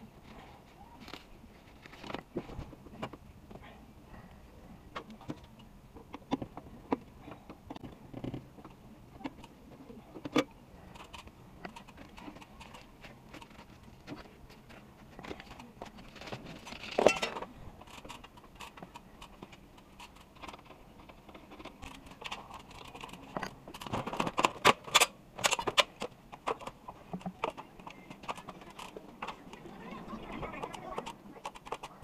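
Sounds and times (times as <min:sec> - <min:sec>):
tools and pipework clicking and rattling: 0:04.9 - 0:29.7, 0:30.6 - 0:32.0.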